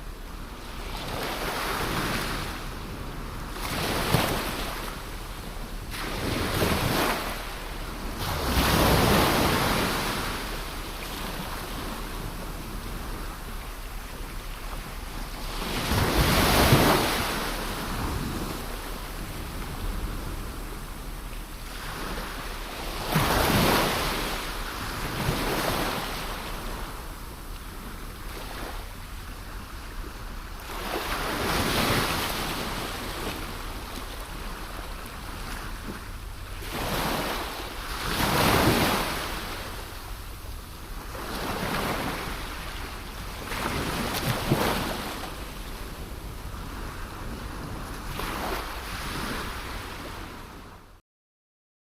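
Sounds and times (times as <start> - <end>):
wind rumble on microphone: 0.0 - 51.0
sea waves breaking: 0.2 - 50.7.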